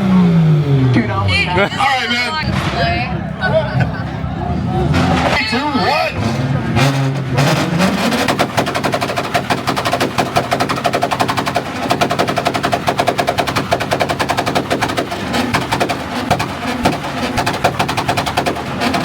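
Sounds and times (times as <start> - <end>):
exhaust bangs and pops: 0.0 - 4.2, 4.8 - 19.0
car engines revving: 0.0 - 19.0.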